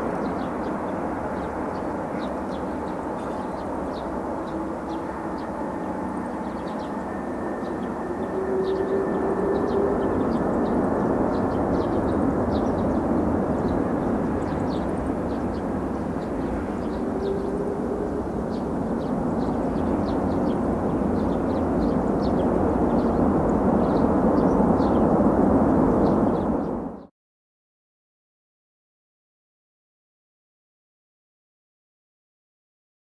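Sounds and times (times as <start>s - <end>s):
distant jet engines rumbling: 0.0s - 27.1s.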